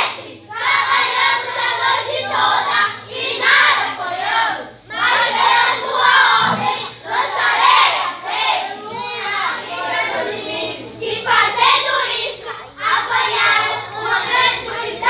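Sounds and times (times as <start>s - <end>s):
children singing and shouting: 0.0s - 15.0s.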